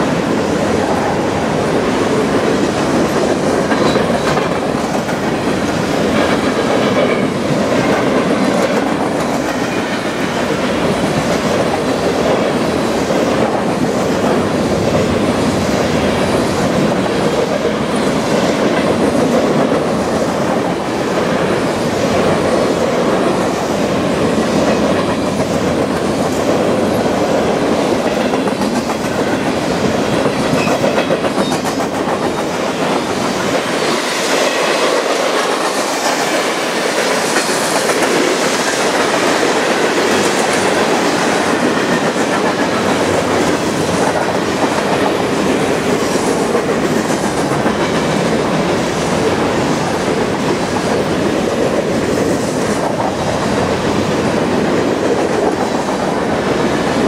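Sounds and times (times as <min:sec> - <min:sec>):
freight train wheels rumbling: 0:00.0 - 0:57.0
wheels clickety-clack: 0:02.1 - 0:57.0.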